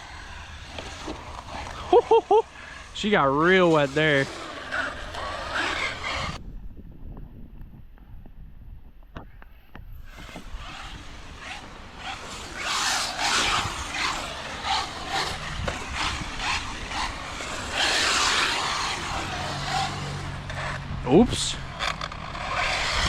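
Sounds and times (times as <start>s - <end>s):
rc truck motor: 0.0s - 6.4s, 10.1s - 23.0s.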